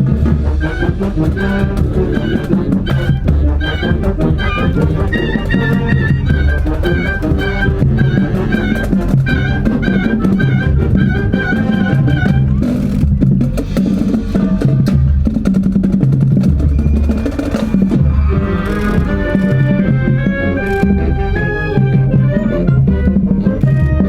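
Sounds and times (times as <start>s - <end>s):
wind band playing: 0.0s - 15.3s, 16.6s - 24.0s.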